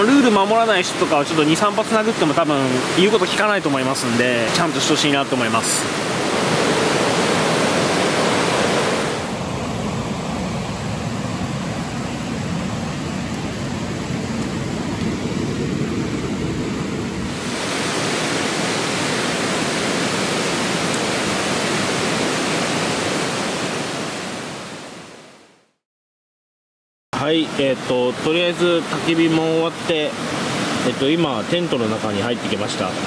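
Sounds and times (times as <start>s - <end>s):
stream water flowing: 0.0s - 25.3s, 27.2s - 33.0s.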